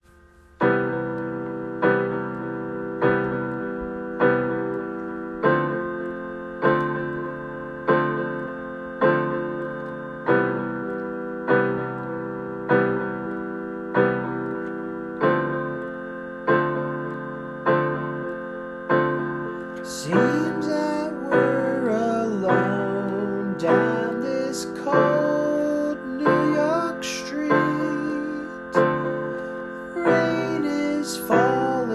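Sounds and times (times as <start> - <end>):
keyboard repeating chord: 0.0 - 31.9
melodic line: 0.6 - 31.9.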